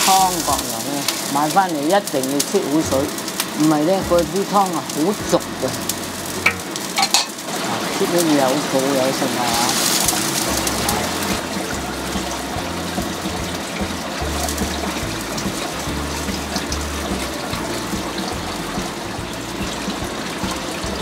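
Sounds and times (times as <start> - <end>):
background music: 0.0 - 7.0, 8.0 - 21.0
water boiling: 0.0 - 21.0.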